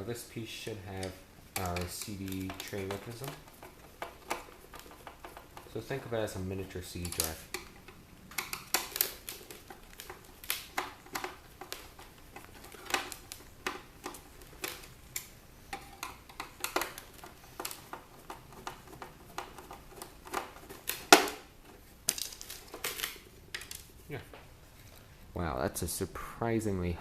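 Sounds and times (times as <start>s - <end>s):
small parts clicking and knocking: 0.0s - 25.1s.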